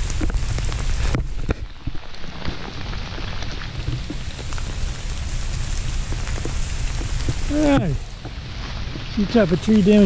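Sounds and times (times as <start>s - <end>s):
freezing rain pattering on ice: 0.0s - 10.0s.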